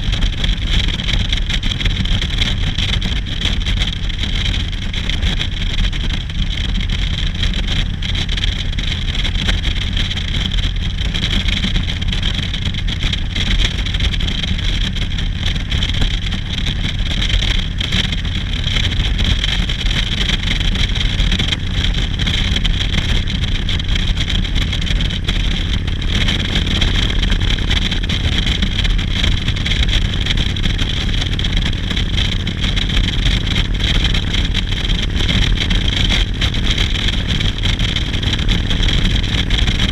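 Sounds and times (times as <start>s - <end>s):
motorcycle engine rumble: 0.0s - 39.9s
road and wind noise: 0.0s - 39.9s.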